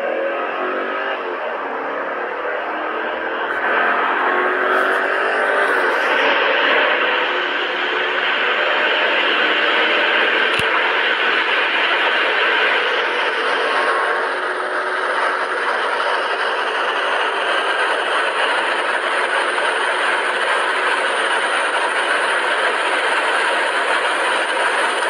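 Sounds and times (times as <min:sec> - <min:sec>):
car engine pulling hard: 0:00.0 - 0:25.0.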